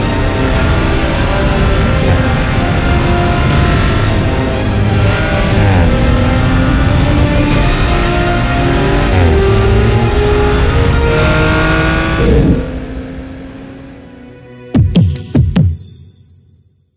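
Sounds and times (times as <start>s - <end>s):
car engine accelerating through gears: 0.0s - 14.1s.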